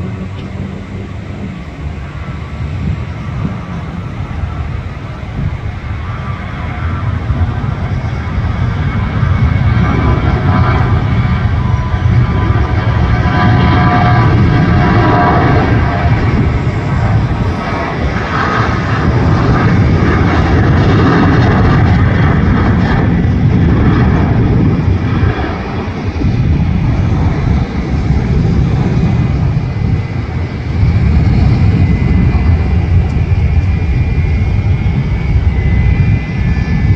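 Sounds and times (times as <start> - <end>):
jet engines at takeoff: 0.0 - 36.9.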